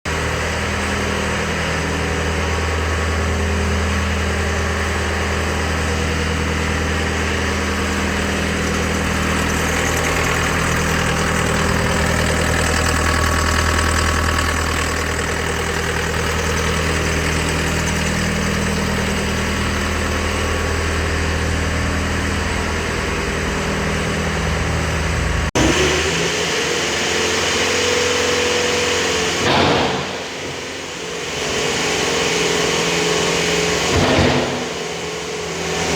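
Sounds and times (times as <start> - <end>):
diesel engine idling: 0.1 - 35.9.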